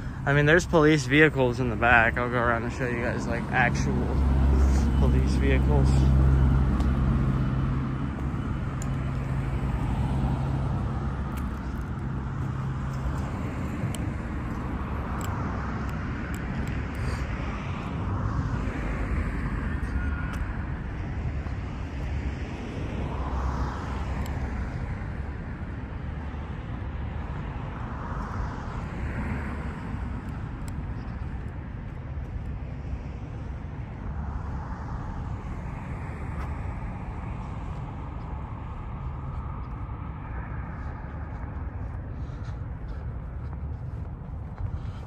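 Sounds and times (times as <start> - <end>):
road traffic rumble: 0.0 - 45.0
vehicles passing: 0.0 - 45.0.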